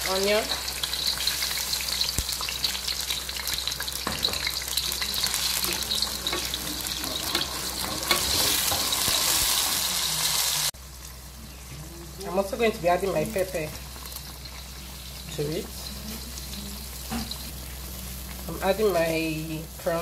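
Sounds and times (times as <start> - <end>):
onion sizzling in hot oil: 0.0 - 20.0.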